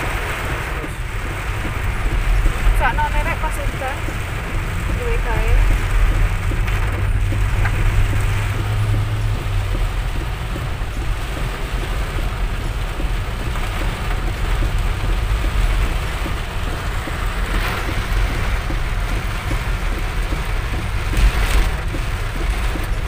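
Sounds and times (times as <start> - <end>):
car driving on wet road: 0.0 - 23.0
heavy rain drumming on car roof: 0.0 - 23.0.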